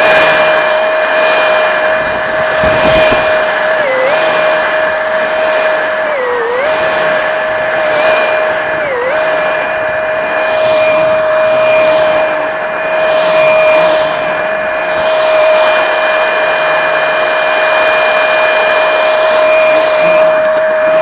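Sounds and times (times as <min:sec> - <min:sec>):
diesel engine running hard: 0:00.0 - 0:21.0
high hydraulic whine: 0:00.0 - 0:21.0.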